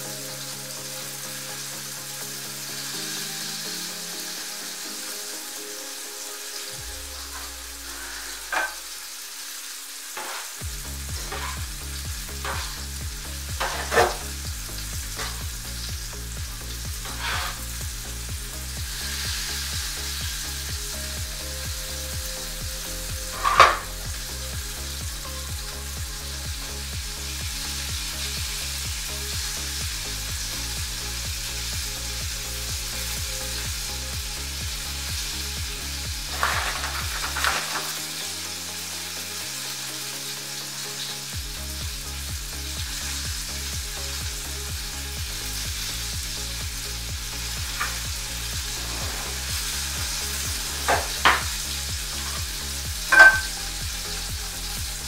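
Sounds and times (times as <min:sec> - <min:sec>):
constant hiss: 0:00.0 - 0:55.0
music with stepping bass line: 0:10.2 - 0:55.0.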